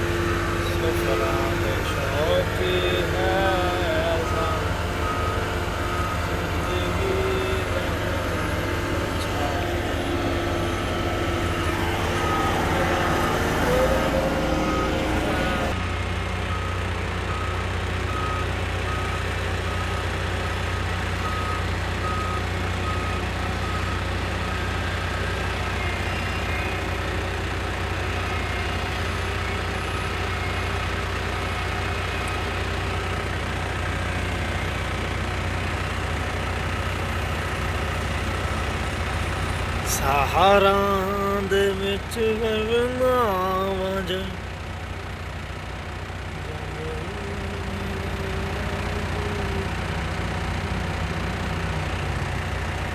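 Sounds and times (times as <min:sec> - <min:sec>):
reversing alarm beeping: 0:00.0 - 0:15.8, 0:16.5 - 0:20.0, 0:21.2 - 0:44.4
heavy vehicle engine running: 0:00.0 - 0:52.9.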